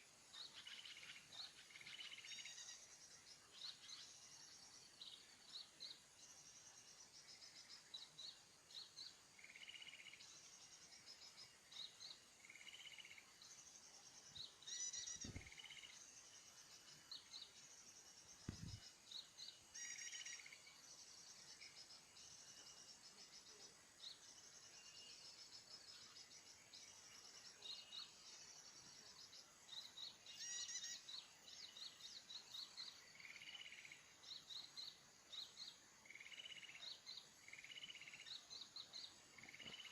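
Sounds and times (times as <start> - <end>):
faint insect drone: 0.0 - 39.9
small birds chirping: 0.0 - 39.9.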